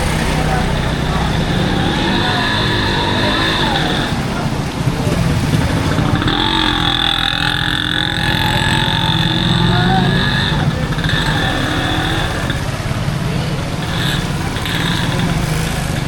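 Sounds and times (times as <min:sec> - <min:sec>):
vehicle engines running: 0:00.0 - 0:16.0
voices of passers-by: 0:00.0 - 0:16.0.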